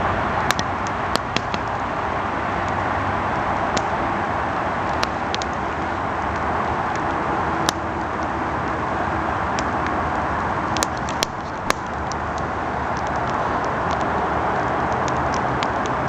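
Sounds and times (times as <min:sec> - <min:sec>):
campfire flames roaring: 0:00.0 - 0:16.0
wood crackling pops: 0:00.4 - 0:02.0, 0:02.6 - 0:04.1, 0:04.7 - 0:08.9, 0:09.5 - 0:16.0.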